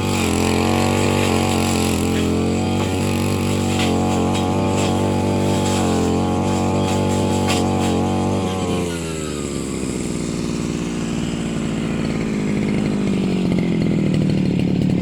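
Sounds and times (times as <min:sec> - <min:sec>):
small engine firing roughly: 0:00.0 - 0:15.0.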